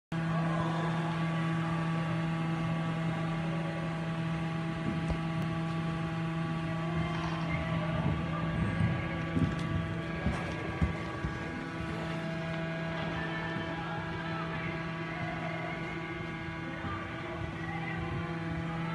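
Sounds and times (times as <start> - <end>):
steady mechanical hum: 0.1 - 18.9.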